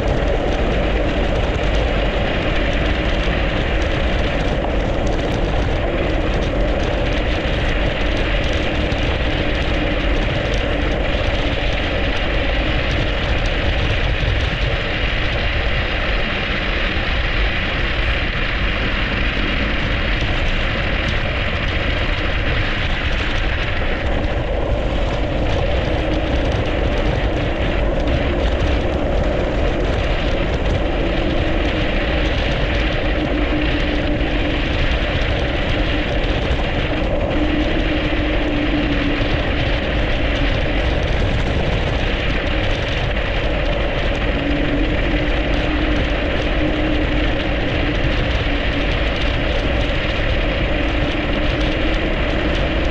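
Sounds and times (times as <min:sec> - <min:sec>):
bicycle tyres rolling over snow: 0:00.0 - 0:52.9
wind on microphone: 0:00.0 - 0:52.9.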